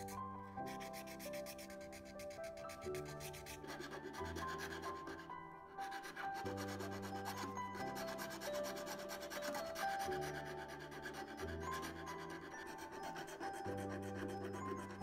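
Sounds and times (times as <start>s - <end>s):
file rasping on plastic: 0.0s - 15.0s.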